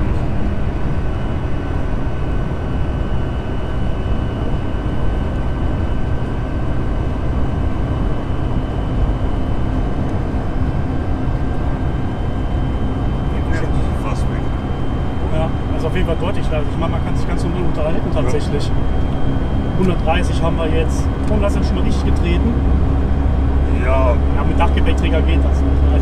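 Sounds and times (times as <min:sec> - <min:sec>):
car drivetrain and road rumble: 0:00.0 - 0:26.0
constant high whine: 0:00.0 - 0:26.0.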